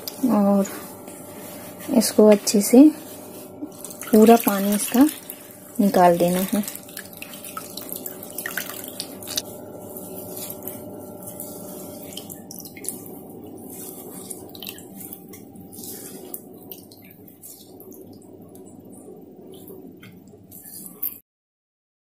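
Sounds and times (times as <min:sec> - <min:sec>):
faint steady hum: 0:00.0 - 0:21.2.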